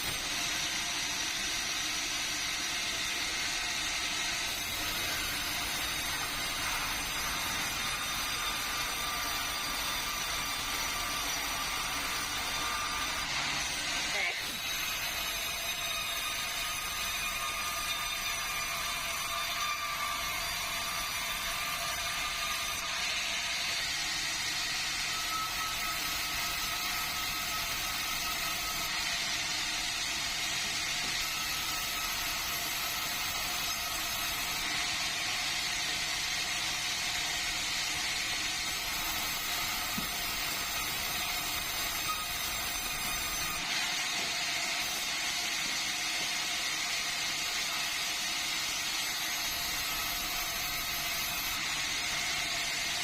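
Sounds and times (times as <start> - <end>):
sawmill saw running: 0.0 - 53.0.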